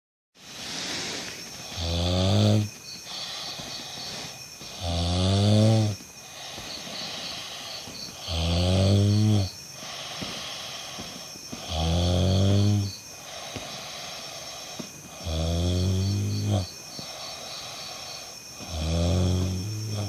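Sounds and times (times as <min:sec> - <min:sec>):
soft breathing: 0:00.4 - 0:04.9, 0:05.6 - 0:20.0
person snoring: 0:00.4 - 0:20.0.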